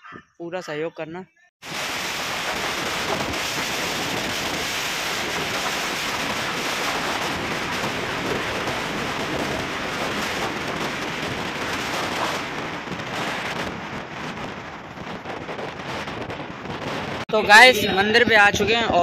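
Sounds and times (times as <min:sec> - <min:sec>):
wind on microphone: 0:01.6 - 0:19.0.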